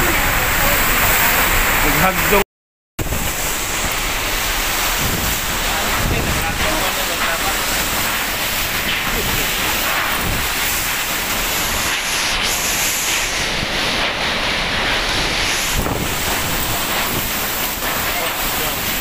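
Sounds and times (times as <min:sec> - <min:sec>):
strong wind rushing: 0:03.0 - 0:18.9
wind buffeting microphone: 0:03.0 - 0:18.9.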